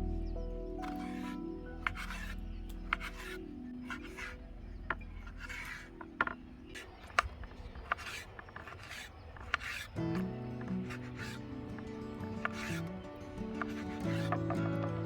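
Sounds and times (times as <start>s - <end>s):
faint background music: 0.0s - 15.0s
rasping scraping strokes: 0.8s - 15.0s.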